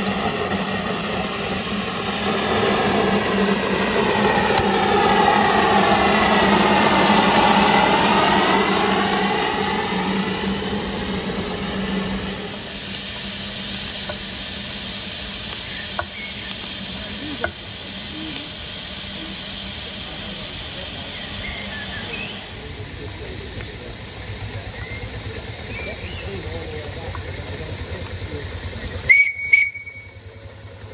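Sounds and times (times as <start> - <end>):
miniature steam vehicle passing: 0.0 - 30.9
steam hissing: 0.0 - 30.9.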